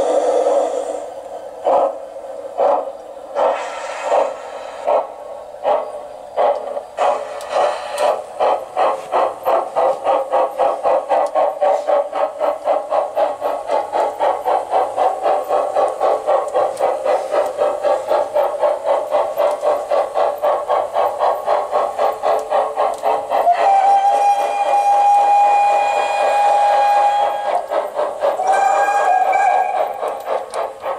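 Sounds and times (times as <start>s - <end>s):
steam locomotive chuffing from loudspeaker: 0.0s - 30.9s.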